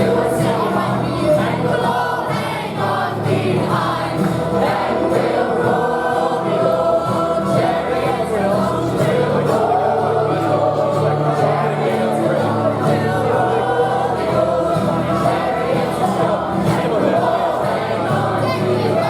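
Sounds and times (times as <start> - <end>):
choir singing: 0.0 - 19.0
low steady accompaniment: 0.0 - 19.0.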